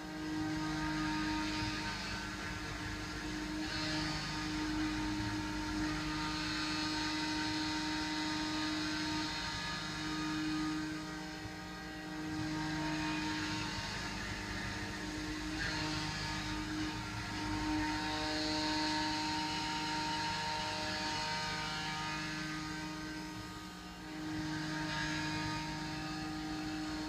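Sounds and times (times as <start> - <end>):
machine hum with held tones: 0.0 - 27.0.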